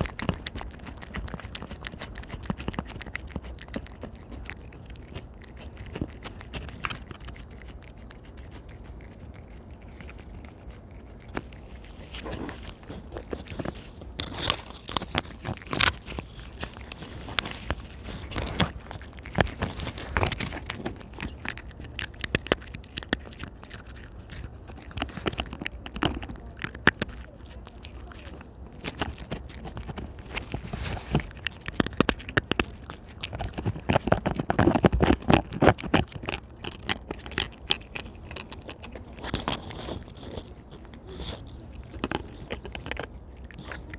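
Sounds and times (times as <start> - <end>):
wet chewing and smacking: 0.0 - 43.9.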